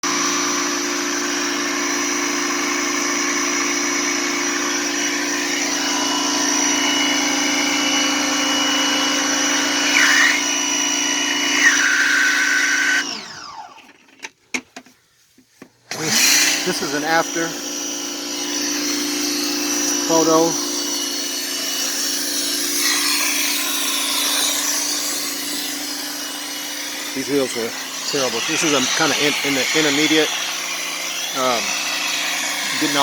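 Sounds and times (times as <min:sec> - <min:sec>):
motor spinning down: 0:00.1 - 0:14.0, 0:15.9 - 0:33.0
electric motor humming: 0:00.1 - 0:14.1, 0:15.9 - 0:33.0.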